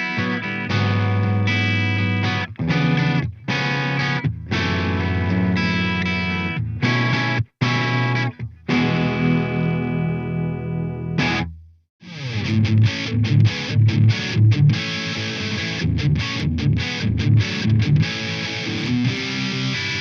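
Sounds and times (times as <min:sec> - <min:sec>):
guitar strum: 0:00.0 - 0:20.0
overdriven guitar riff: 0:00.0 - 0:20.0.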